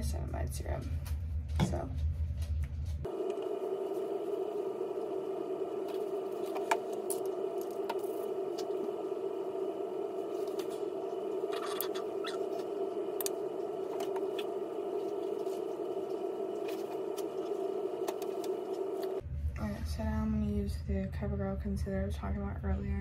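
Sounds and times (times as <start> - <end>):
steady hum of held tones: 2.4 - 23.0.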